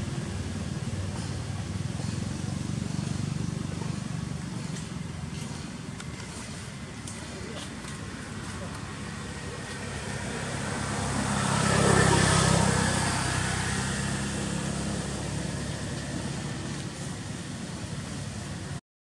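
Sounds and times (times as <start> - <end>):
vehicle engine passing by: 0.0 - 18.8.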